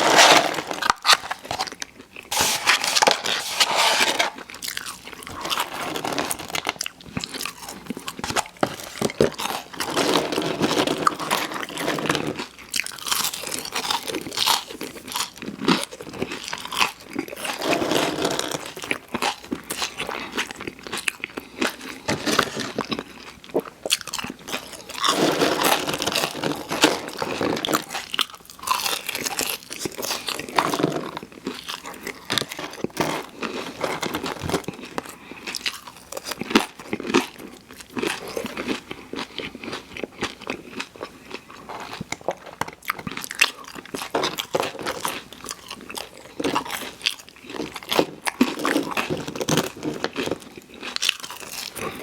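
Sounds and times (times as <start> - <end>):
crunchy food chewing: 0.0 - 52.0.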